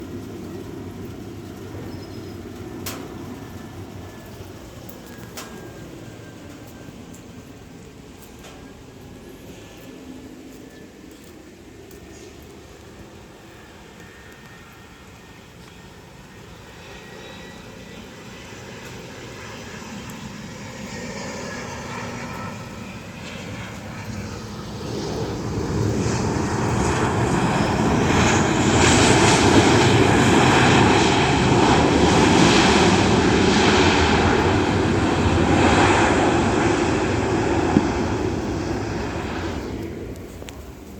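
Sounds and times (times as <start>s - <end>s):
airliner engines landing: 0.0s - 40.9s.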